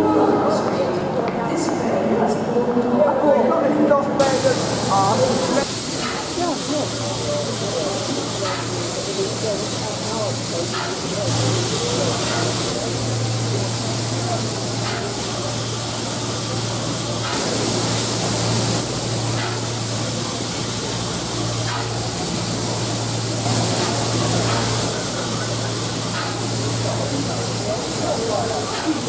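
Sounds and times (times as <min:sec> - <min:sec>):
crowd chatter: 0:00.0 - 0:29.0
steam hissing: 0:04.2 - 0:29.0.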